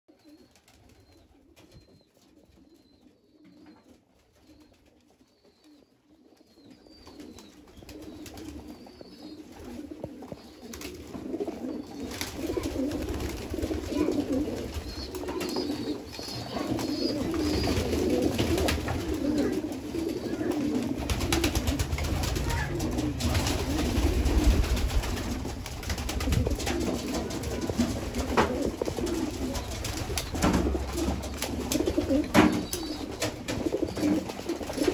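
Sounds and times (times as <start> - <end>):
pigeons cooing: 0.1 - 34.9.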